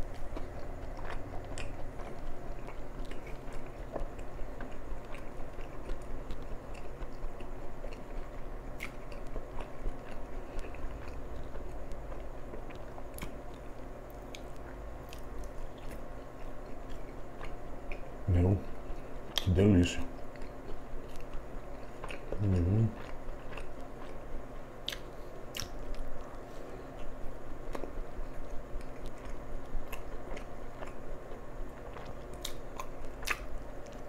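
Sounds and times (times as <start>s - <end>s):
person chewing sandwich: 0.0s - 19.5s, 20.2s - 34.0s.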